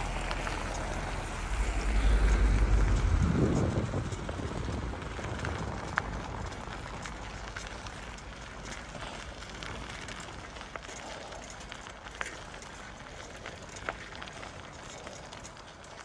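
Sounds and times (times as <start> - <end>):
bicycle tyres crunching on snow: 0.0 - 16.0.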